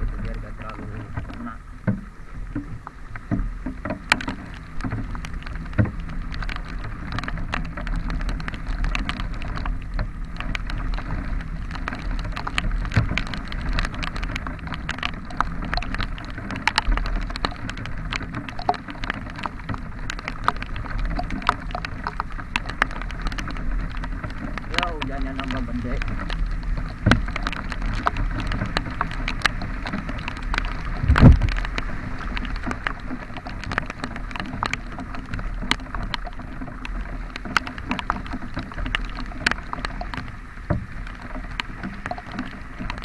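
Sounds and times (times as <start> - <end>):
raindrops tapping on microphone: 0.0 - 43.0
road noise: 0.0 - 43.0.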